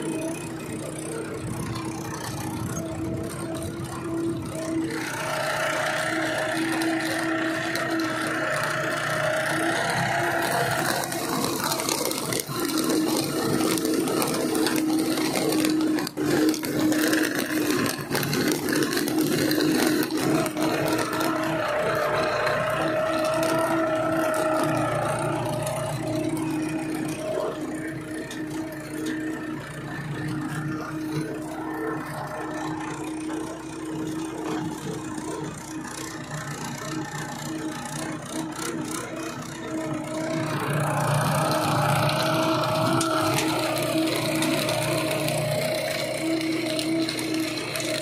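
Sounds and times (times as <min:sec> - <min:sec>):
tractor engine running: 0:00.0 - 0:48.0
seed drill frame rattling: 0:02.5 - 0:35.4, 0:37.0 - 0:48.0.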